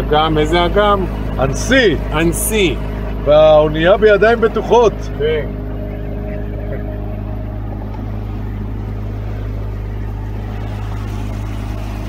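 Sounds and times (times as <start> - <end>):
motorboat engine humming: 0.0 - 12.0.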